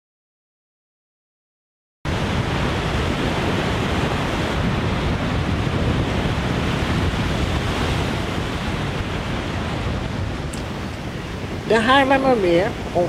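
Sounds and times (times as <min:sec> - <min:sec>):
waves breaking: 0:02.1 - 0:13.0
wind: 0:02.1 - 0:13.0.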